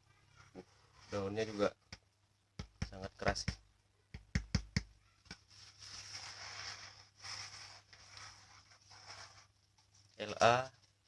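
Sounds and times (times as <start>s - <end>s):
rustling and handling noise: 0.0s - 3.7s, 4.8s - 11.0s.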